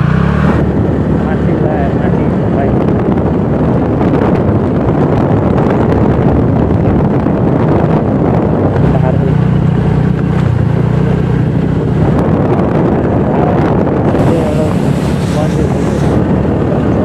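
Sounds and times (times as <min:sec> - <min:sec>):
motorbike engine droning: 0:00.0 - 0:17.0
wind noise on microphone: 0:00.0 - 0:17.0.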